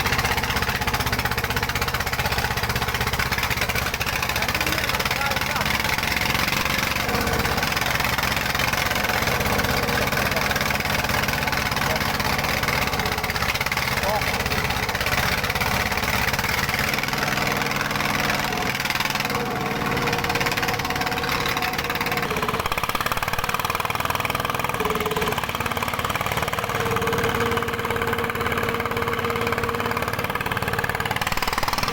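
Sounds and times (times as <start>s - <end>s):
diesel engine running: 0.0s - 31.9s
higher engine tone: 0.0s - 31.9s.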